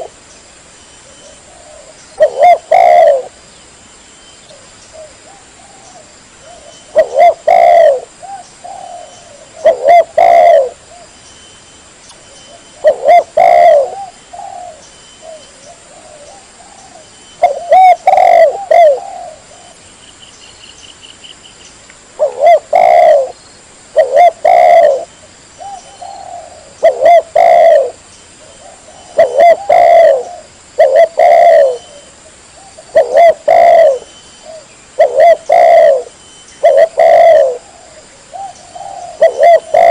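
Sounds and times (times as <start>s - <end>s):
dove cooing: 0.0s - 0.2s, 1.0s - 3.4s, 4.5s - 11.1s, 12.5s - 19.8s, 22.2s - 39.9s.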